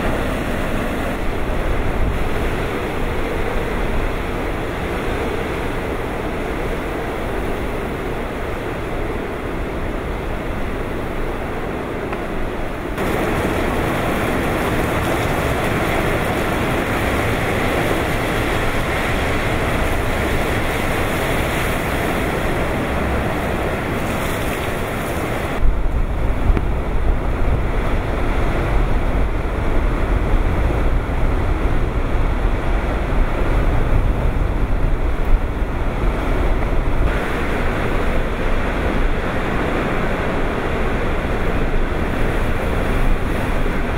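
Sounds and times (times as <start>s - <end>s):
wind and driving rain: 0.0s - 43.9s
wind gusts buffeting microphone: 0.0s - 43.9s.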